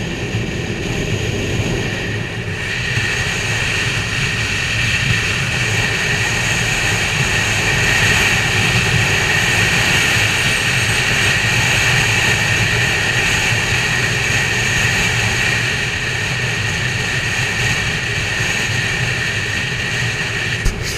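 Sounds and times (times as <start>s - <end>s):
wind rushing on microphone: 0.0s - 20.9s.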